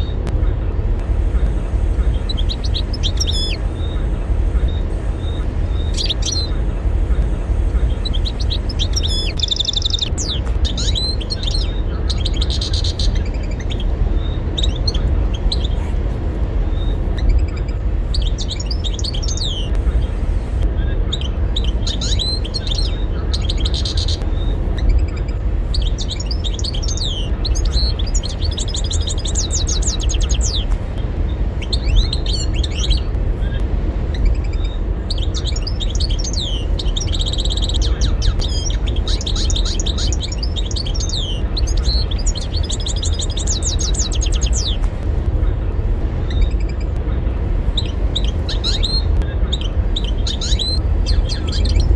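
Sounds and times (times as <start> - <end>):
steady low rumble: 0.0 - 51.9
goldfinch singing: 1.4 - 15.8, 16.7 - 20.1, 20.8 - 30.8, 31.6 - 45.6, 47.8 - 51.9.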